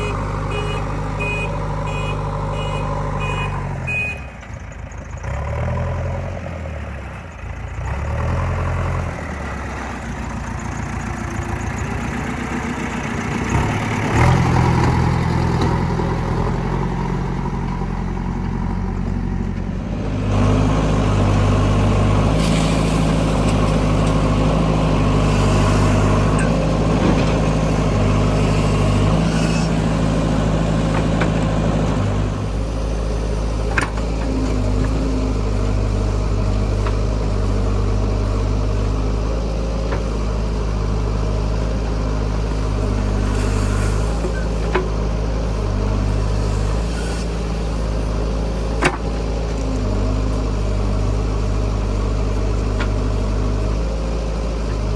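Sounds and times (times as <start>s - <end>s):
diesel engines running: 0.0s - 54.9s.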